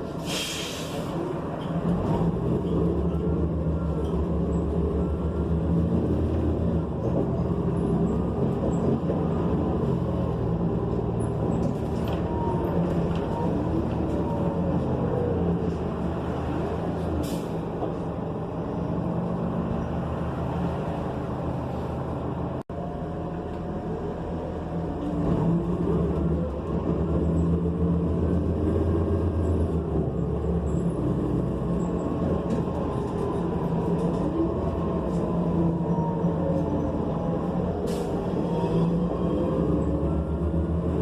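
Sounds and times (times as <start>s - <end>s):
bus engine running: 0.0s - 41.0s.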